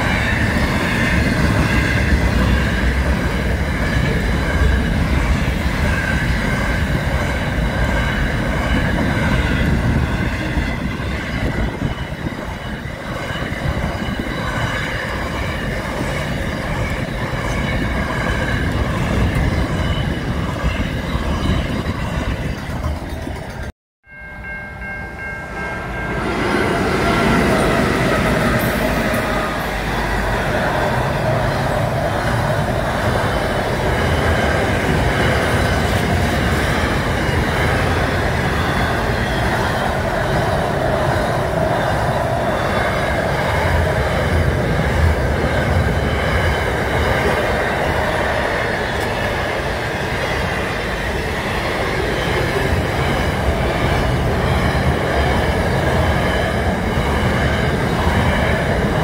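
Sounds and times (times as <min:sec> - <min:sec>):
train wheels clattering on rails: 0:00.0 - 0:23.7, 0:25.9 - 0:59.0
freight train passing: 0:00.0 - 0:59.0.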